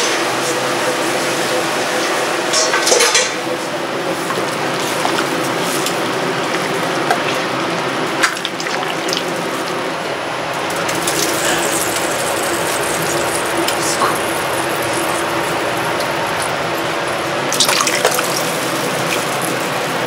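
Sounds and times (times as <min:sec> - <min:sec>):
pot of broth boiling: 0:03.2 - 0:20.0.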